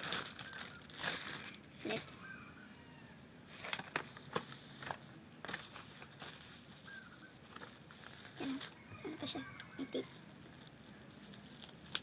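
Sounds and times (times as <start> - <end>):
packaging rustling and crinkling: 0.0 - 2.2, 3.5 - 12.0.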